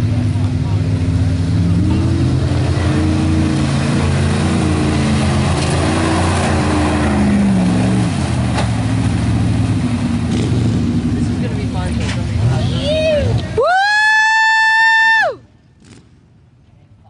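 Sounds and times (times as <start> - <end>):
truck engine revving: 0.0 - 14.3, 15.7 - 16.5.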